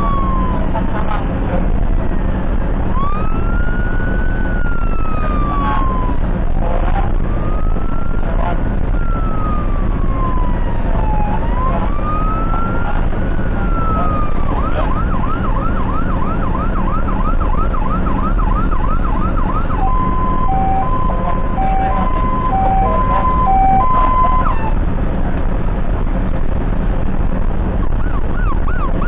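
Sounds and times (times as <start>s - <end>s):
ambulance siren changing pattern: 0.0s - 25.7s, 27.8s - 29.0s
engine and tyres rumbling: 0.0s - 29.0s.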